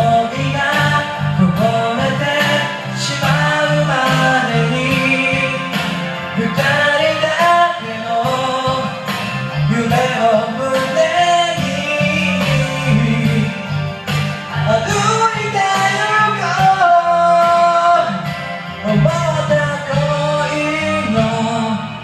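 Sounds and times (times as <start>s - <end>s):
man singing: 0.0s - 22.0s
pop ballad backing music with guitar: 0.0s - 22.0s.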